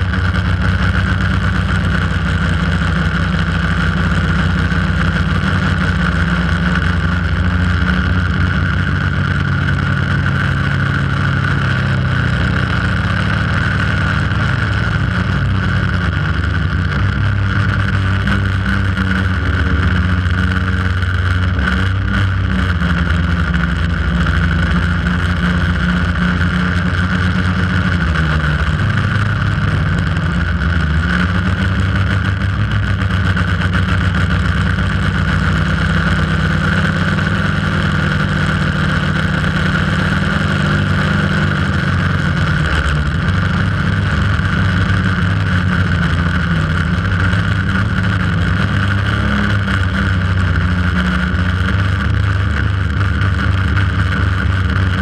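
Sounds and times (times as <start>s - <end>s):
drone motors buzzing: 0.0s - 55.0s.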